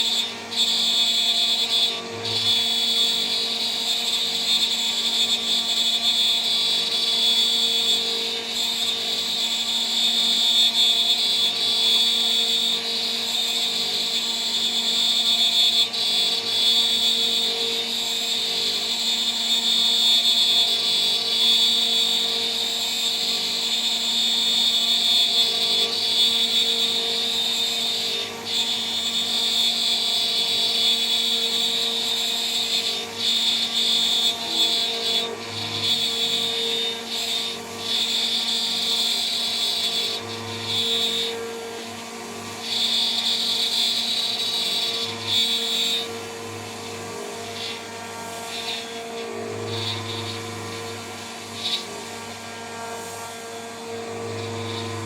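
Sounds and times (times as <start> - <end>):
grinding cutting noise: 0.0 - 55.0
router spindle whine: 0.0 - 55.0.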